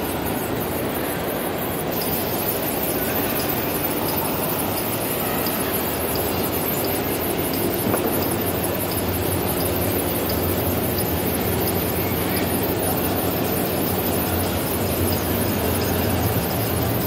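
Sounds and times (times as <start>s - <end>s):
conveyor belts running: 0.0s - 17.0s.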